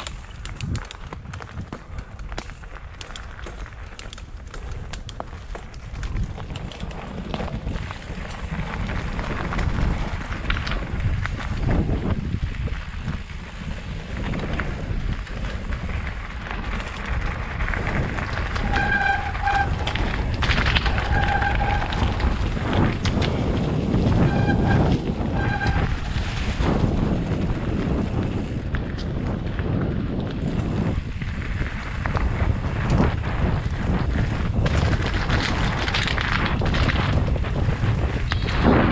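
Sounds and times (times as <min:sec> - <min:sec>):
bike rumbling and knocking over bumps: 0:00.0 - 0:38.9
wind rushing over helmet camera: 0:00.0 - 0:38.9.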